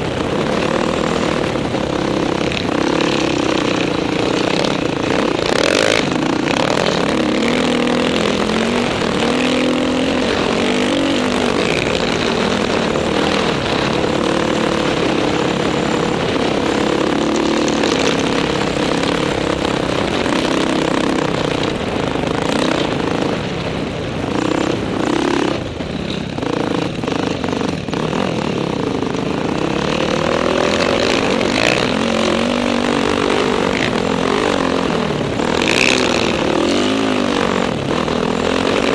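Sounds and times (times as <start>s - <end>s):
dirt bike engine revving: 0.0s - 38.9s
wind rush on microphone: 0.0s - 38.9s.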